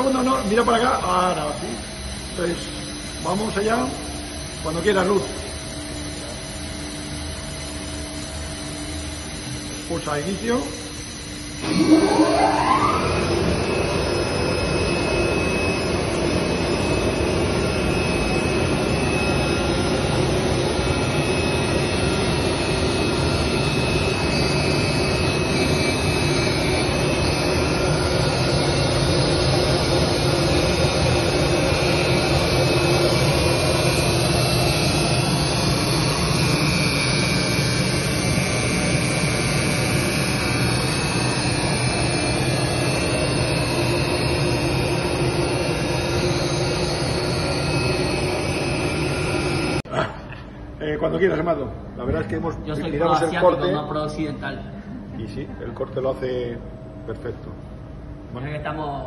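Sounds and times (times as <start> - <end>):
cutting machine humming: 0.0 - 49.9.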